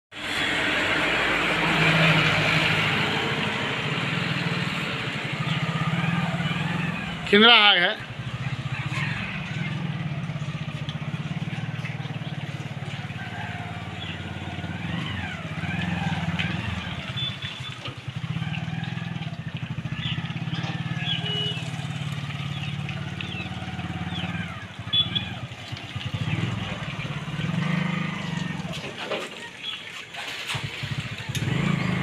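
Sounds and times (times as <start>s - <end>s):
small motorcycle engine running: 0.2s - 28.8s, 30.3s - 32.0s.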